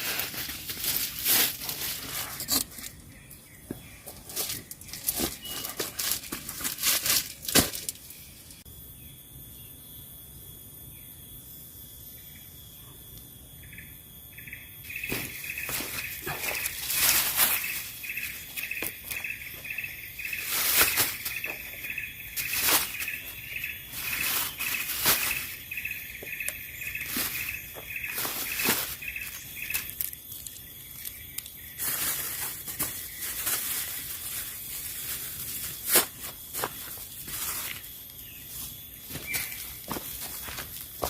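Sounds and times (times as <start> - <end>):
sharp rustling crackles: 0.0 - 3.0, 4.1 - 8.1, 14.9 - 41.0
high insect hum: 0.0 - 41.0
insect chirping: 0.0 - 41.0.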